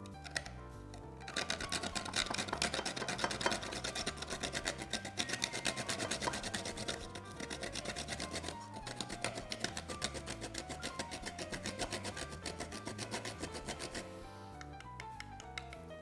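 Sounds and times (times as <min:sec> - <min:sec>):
nutmeg rasping on metal grater: 0:00.0 - 0:14.3.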